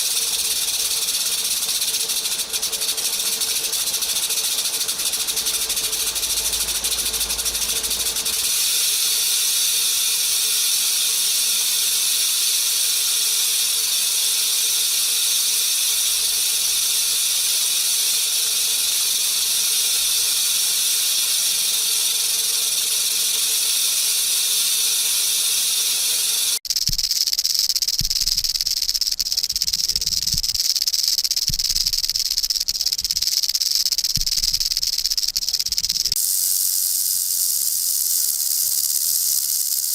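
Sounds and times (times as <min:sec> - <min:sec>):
rattlesnake tail rattling: 0:00.0 - 0:39.9.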